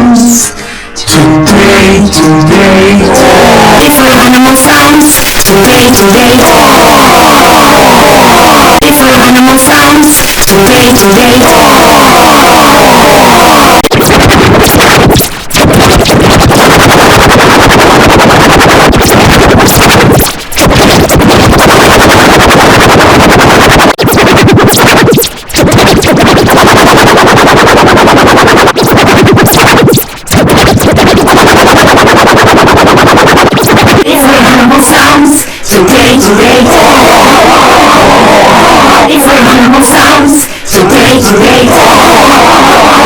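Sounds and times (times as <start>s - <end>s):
distorted electronic noise: 0.0s - 43.0s.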